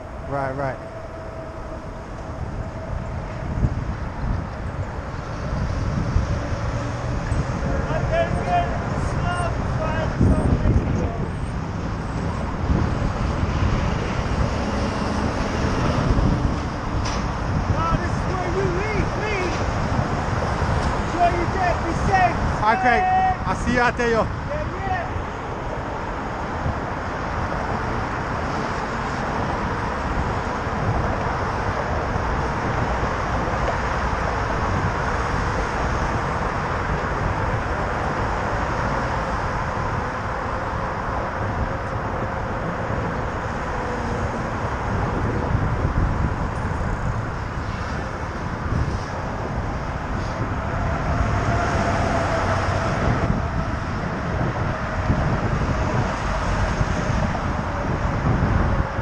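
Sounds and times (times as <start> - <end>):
road traffic: 0.0 - 59.0
wind rushing over microphone: 0.0 - 59.0.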